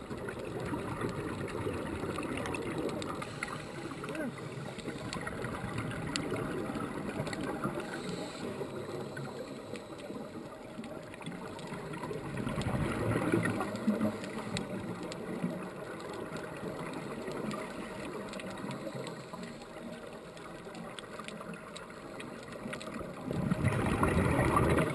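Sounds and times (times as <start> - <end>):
underwater bubbles rushing and gurgling: 0.0 - 24.9.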